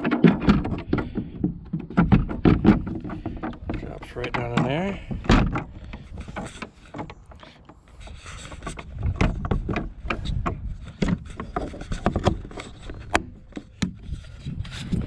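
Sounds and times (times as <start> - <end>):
hard plastic knocks and scraping: 0.0 - 15.0.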